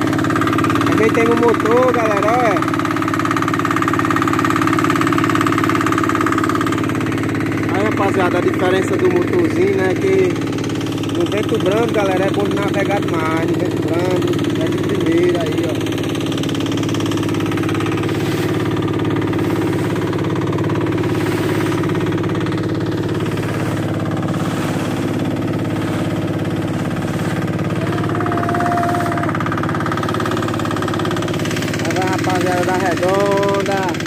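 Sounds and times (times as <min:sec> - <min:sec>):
small boat motor running: 0:00.0 - 0:34.0.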